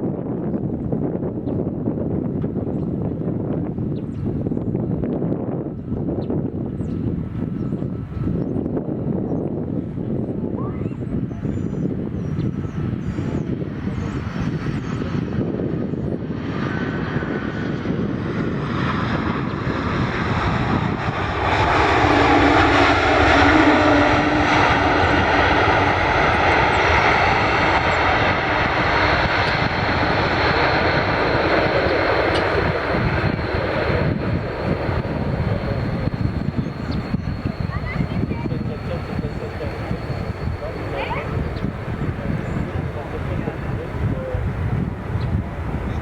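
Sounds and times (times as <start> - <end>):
jet airliner landing: 0.0 - 46.0.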